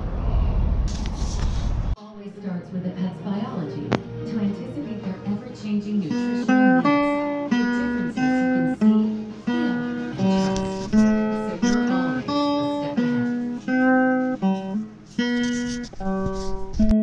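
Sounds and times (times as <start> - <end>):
acoustic guitar music: 3.3 - 17.0.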